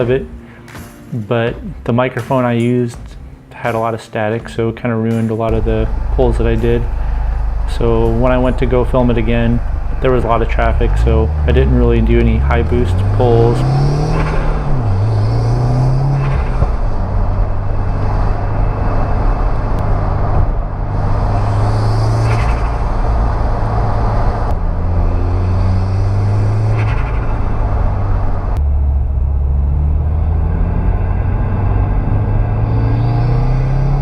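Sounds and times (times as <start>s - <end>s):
turbocharged car engine: 5.5s - 34.0s.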